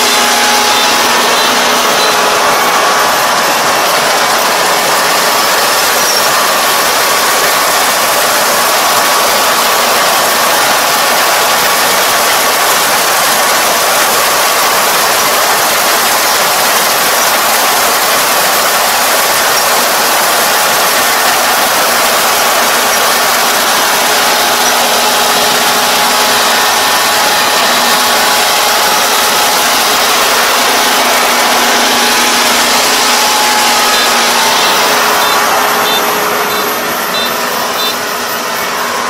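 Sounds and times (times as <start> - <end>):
combine harvester running: 0.0 - 39.0.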